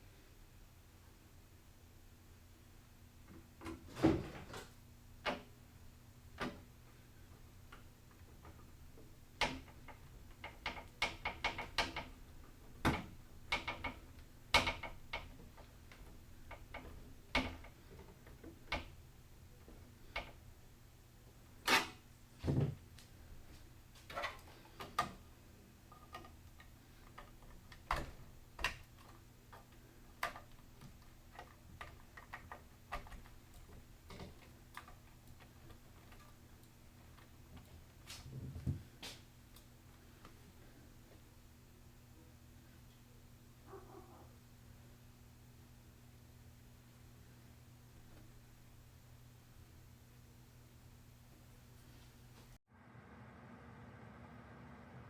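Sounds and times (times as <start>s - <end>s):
faint steady low hum: 0.0s - 55.0s.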